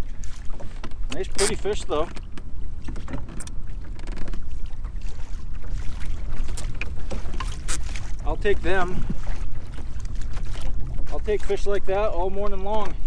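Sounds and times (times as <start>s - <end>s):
water lapping against kayak hull: 0.0s - 13.0s
wind buffeting microphone: 0.0s - 13.0s.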